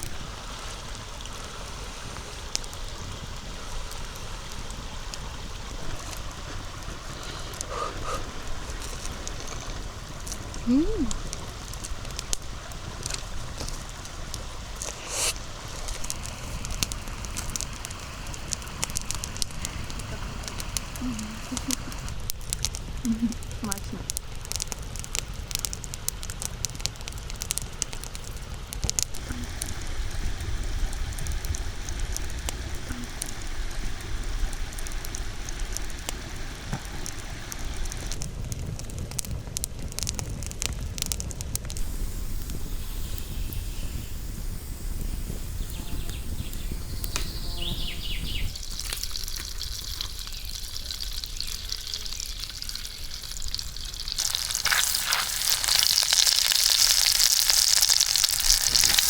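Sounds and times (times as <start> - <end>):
campfire crackling and popping: 0.0 - 59.0
outdoor background noise: 0.0 - 59.0.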